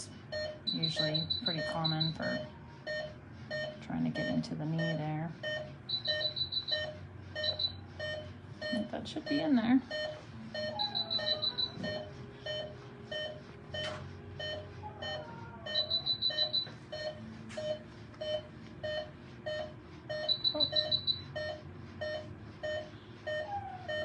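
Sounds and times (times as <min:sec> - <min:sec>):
high-pitched alarm beeps: 0:00.0 - 0:24.0
patient monitor beeping: 0:00.0 - 0:24.0.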